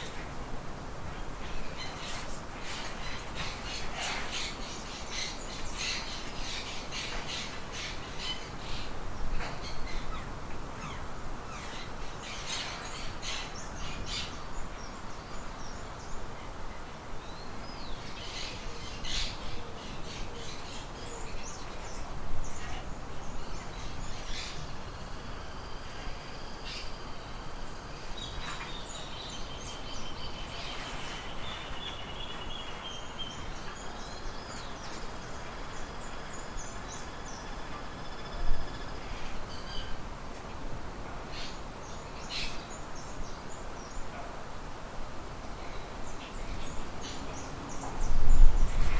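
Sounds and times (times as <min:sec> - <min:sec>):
small birds chirping: 0:00.0 - 0:40.0
steady background hiss: 0:00.0 - 0:48.9.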